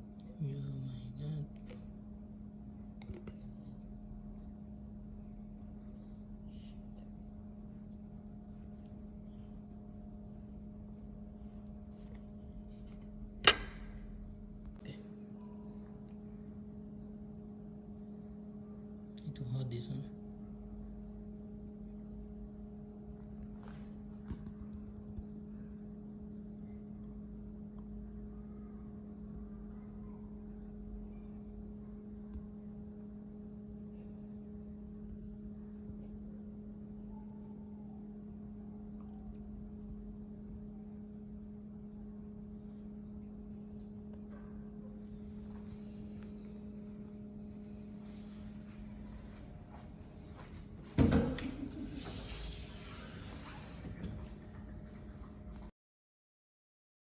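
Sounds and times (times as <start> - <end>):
steady mechanical hum: 0.0 - 55.7.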